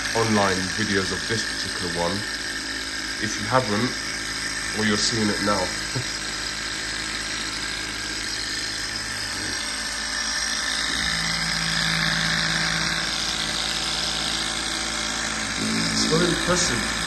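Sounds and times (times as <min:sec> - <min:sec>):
engine mechanical whir: 0:00.0 - 0:17.0.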